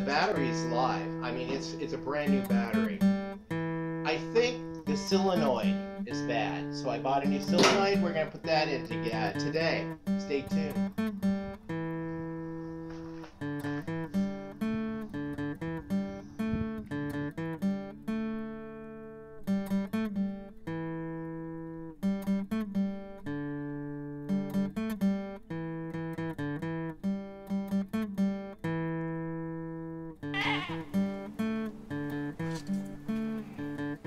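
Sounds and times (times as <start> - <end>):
acoustic guitar music: 0.0 - 34.0.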